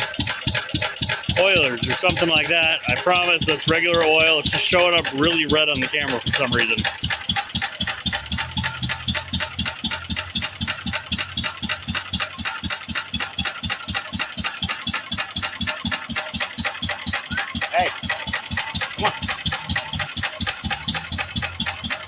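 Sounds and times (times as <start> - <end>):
stationary gas engine running: 0.0 - 22.0.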